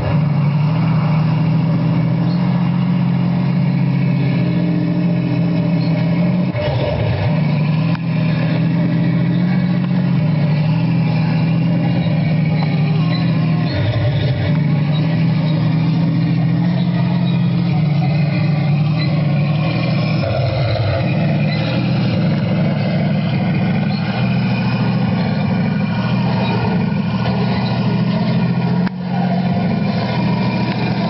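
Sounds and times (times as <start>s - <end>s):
model tank engine running: 0.0s - 31.0s.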